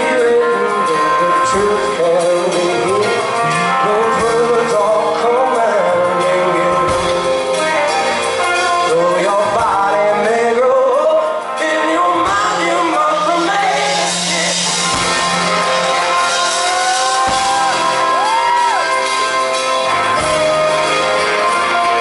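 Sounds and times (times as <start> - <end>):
lead singer singing: 0.0 - 22.0
live rock band playing: 0.0 - 22.0.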